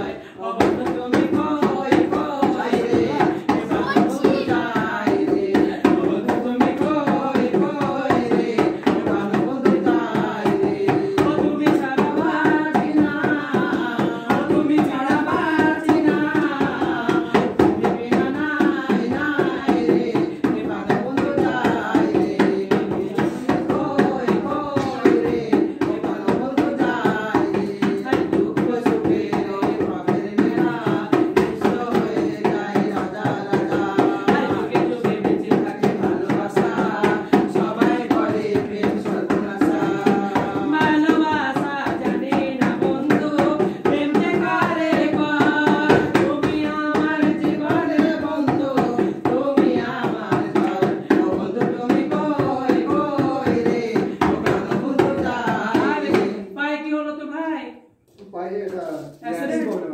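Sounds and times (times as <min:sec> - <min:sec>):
fast drum beat: 0:00.0 - 0:56.4
person singing: 0:00.0 - 0:56.7.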